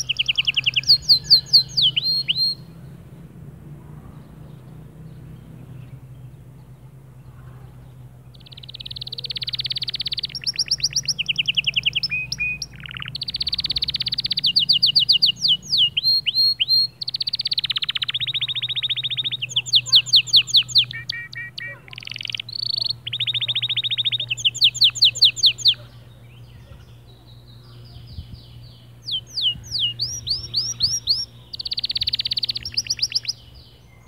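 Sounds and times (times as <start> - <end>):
canary singing trills: 0.0 - 3.0, 4.0 - 34.0.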